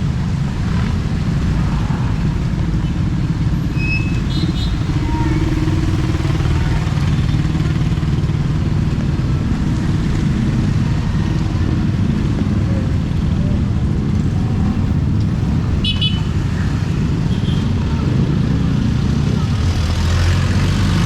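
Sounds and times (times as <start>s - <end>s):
street traffic: 0.0s - 21.0s
engine running: 0.1s - 21.0s.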